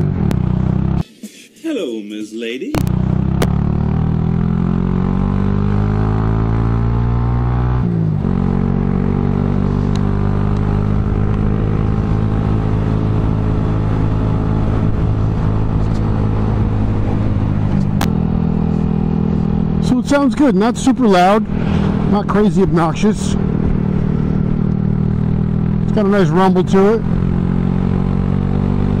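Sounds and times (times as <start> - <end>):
motorcycle engine accelerating: 0.0 - 1.0, 2.8 - 29.0.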